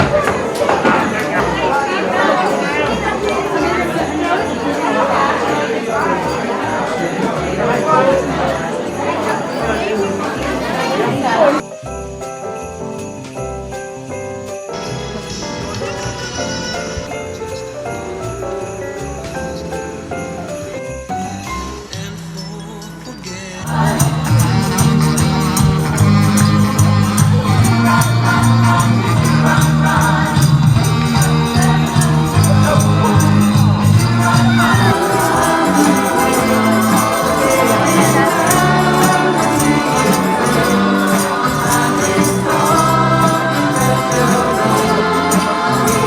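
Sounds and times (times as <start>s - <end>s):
christmas song with singing: 0.0s - 46.0s
fast jingling percussion: 0.0s - 46.0s.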